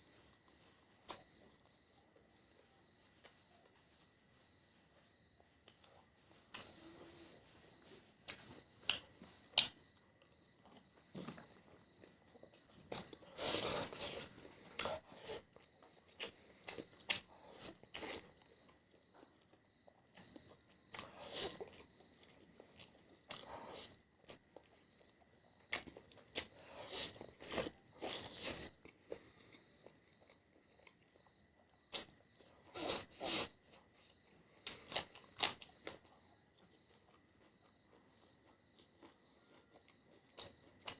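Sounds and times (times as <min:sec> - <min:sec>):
chewing and biting: 0:07.7 - 0:40.9.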